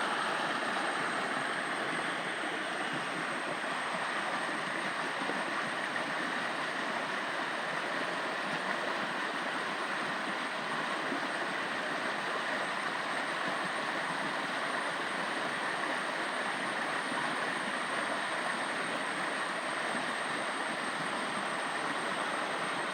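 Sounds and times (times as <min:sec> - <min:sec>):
stream water flowing: 0:00.0 - 0:22.9.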